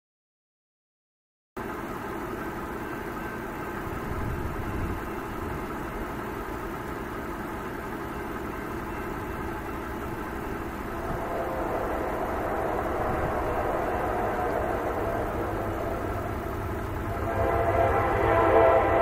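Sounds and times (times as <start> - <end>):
distant diesel locomotives rumbling: 1.6 - 19.0.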